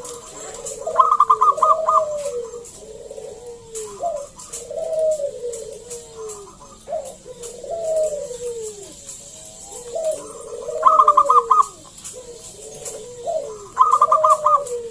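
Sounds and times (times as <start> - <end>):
dove cooing: 0.0 - 14.9.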